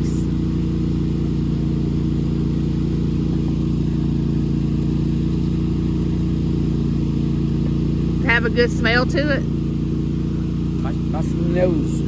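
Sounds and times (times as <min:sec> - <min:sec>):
lawn mower engine droning: 0:00.0 - 0:12.0.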